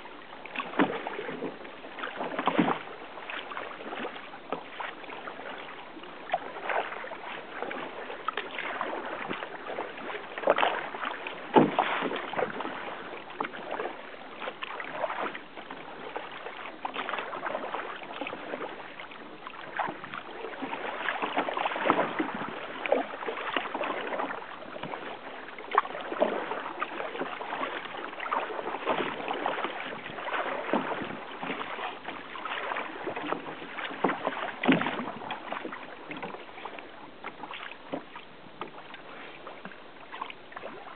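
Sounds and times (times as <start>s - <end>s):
water splashing against a kayak hull: 0.0s - 40.9s.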